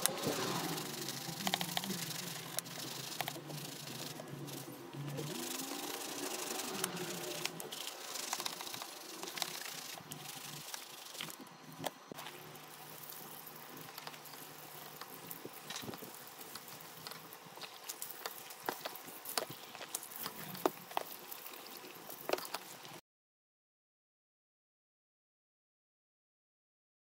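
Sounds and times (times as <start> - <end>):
brush scrubbing sneakers: 0.0 - 22.3
foam crackling: 0.0 - 22.9.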